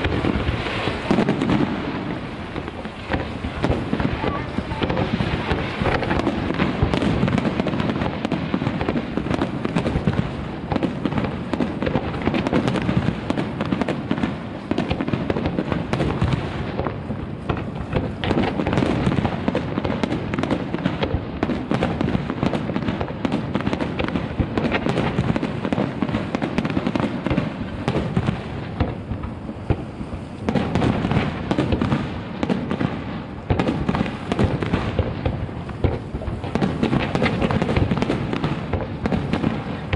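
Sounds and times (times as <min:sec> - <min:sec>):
fireworks bursts and crackling: 0:00.0 - 0:39.9.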